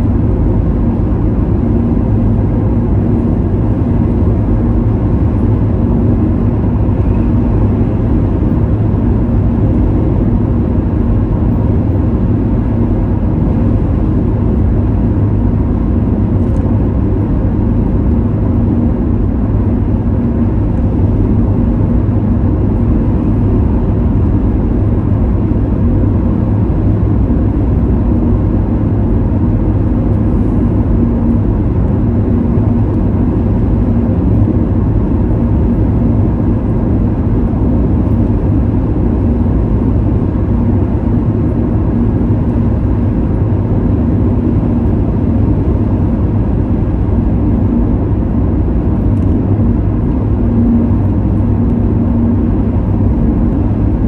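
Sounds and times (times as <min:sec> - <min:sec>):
car interior road drone: 0:00.0 - 0:54.0.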